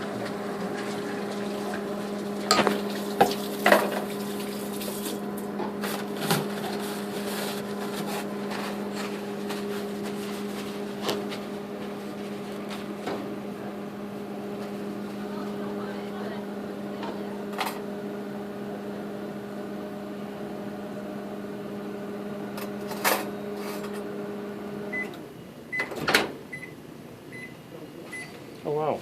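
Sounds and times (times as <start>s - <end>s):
microwave oven humming: 0.0s - 29.0s.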